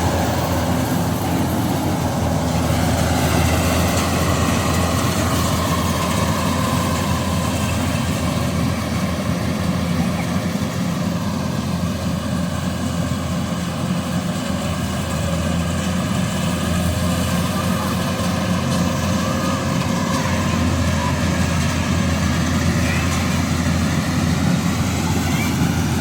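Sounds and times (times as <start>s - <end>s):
harvester engine droning: 0.0s - 26.0s.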